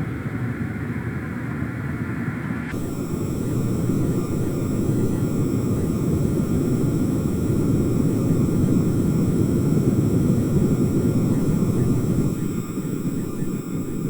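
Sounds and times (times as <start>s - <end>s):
faint high tones: 2.7s - 14.0s.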